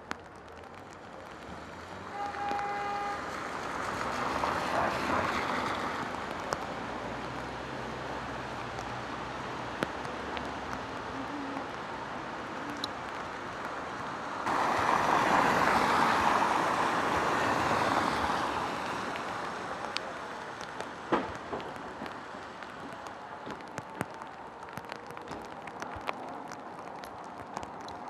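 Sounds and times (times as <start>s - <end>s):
tyres swishing on wet road: 0.0s - 28.0s.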